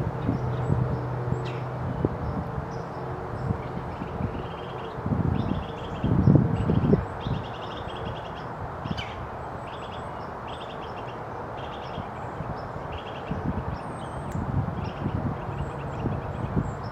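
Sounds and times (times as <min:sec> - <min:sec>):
wind noise: 0:00.0 - 0:09.4, 0:11.8 - 0:16.9.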